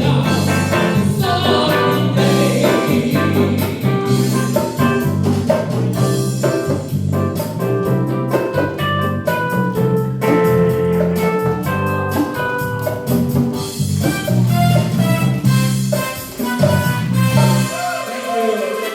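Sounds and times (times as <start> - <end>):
drum kit steady beat: 0.0 - 18.9
live band playing: 0.0 - 18.9.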